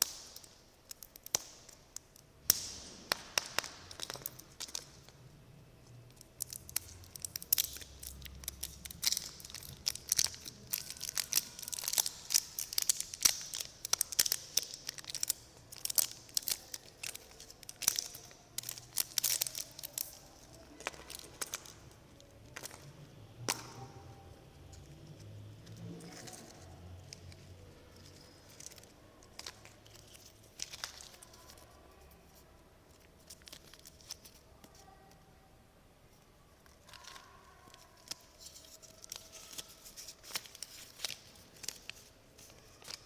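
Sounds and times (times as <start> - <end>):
snack wrappers crinkling and tearing: 0.0 - 5.1, 5.9 - 32.3, 33.0 - 34.8, 36.6 - 43.0.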